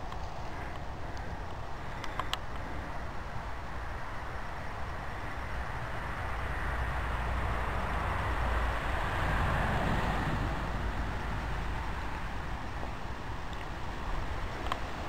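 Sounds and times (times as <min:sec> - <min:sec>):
passing vehicle rumble: 0:00.0 - 0:15.0.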